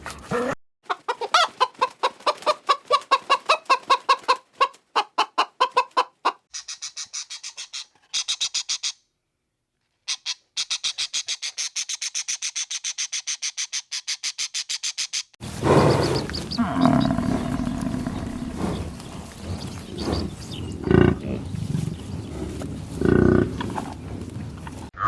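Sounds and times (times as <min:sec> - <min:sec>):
chickens clucking rapidly: 0:00.0 - 0:08.8, 0:10.1 - 0:24.9.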